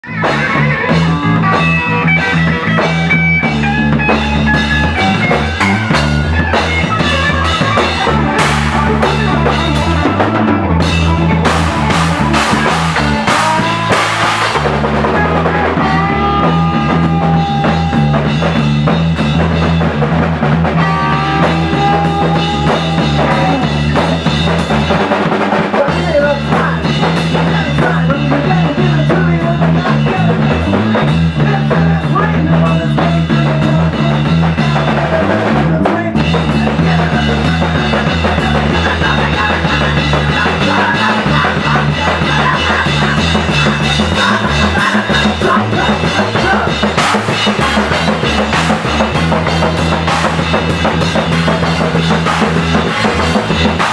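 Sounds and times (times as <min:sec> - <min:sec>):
drums keeping steady beat: 0:00.0 - 0:53.9
rock music: 0:00.0 - 0:53.9.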